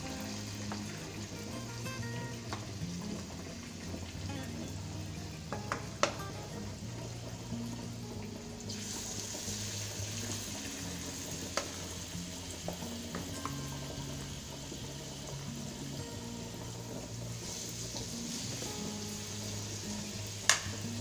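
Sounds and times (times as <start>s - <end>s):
background music: 0.0s - 21.0s
fritters sizzling in hot oil: 0.0s - 21.0s.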